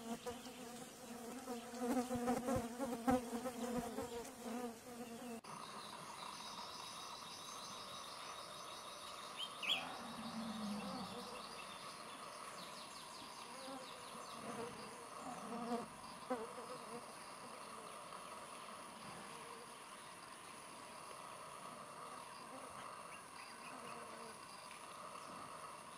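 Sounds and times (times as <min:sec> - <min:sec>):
flying insects buzzing: 0:00.0 - 0:08.3, 0:08.9 - 0:25.9.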